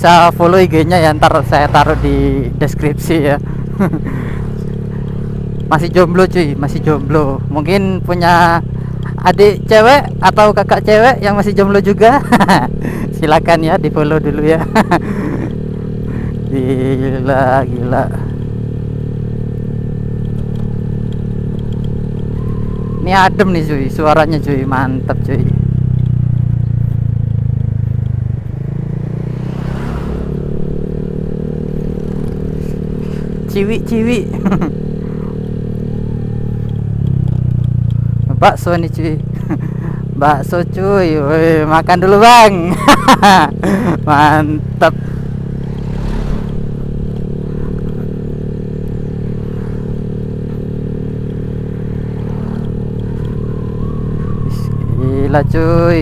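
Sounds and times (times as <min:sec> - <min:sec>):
scooter engine exhaust note: 0:00.1 - 0:56.0.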